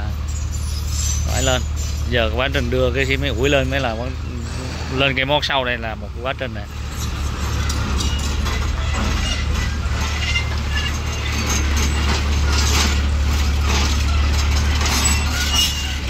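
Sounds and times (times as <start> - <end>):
metallic clanks and rattles: 0.0 - 5.6, 6.6 - 16.0
truck engine running at low revs: 0.0 - 16.0.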